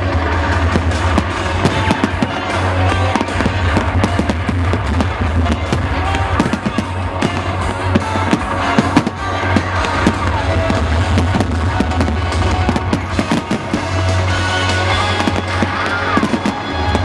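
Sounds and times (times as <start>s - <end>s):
fireworks bangs and crackles: 0.0s - 17.0s
music over sound system: 0.0s - 17.0s.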